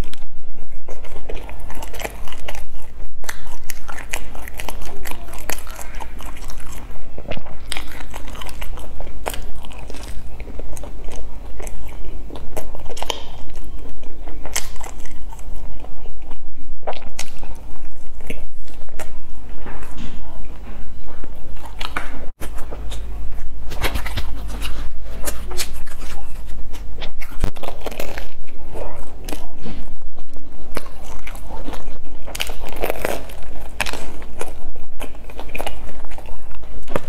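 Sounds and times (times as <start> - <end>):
chewing and biting bread: 0.0 - 37.0
low steady hum: 0.0 - 37.0.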